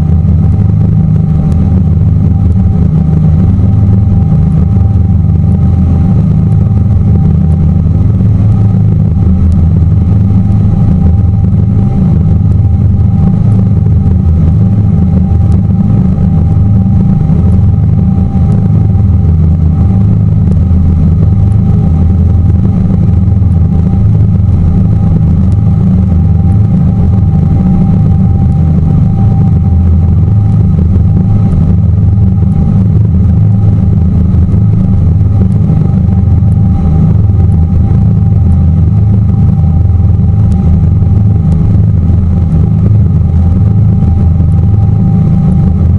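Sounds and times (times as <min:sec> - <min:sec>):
boat engine drone: 0:00.0 - 0:45.9
faint steady whine: 0:00.0 - 0:45.9.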